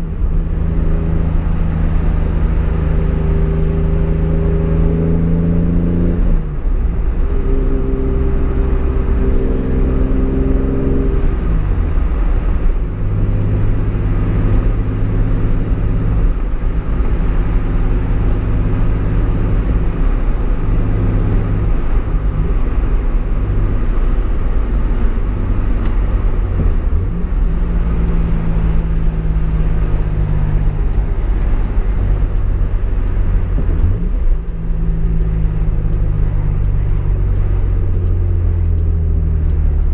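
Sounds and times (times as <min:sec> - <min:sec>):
car engine shifting through gears: 0:00.0 - 0:39.9
road noise: 0:00.0 - 0:39.9.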